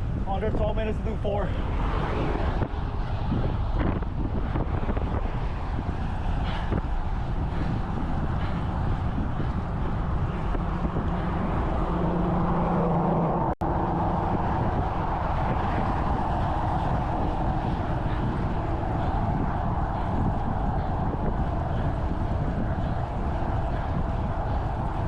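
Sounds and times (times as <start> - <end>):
road traffic noise: 0.0 - 25.0
wind rushing on microphone: 0.0 - 25.0.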